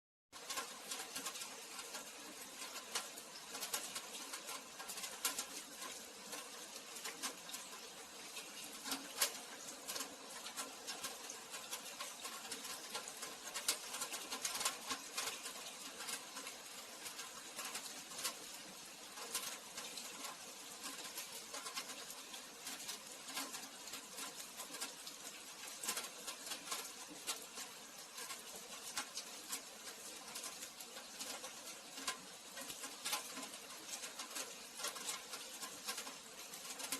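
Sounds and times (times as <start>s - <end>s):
raindrops pattering on surfaces: 0.3s - 36.9s
steady rain falling: 0.3s - 36.9s.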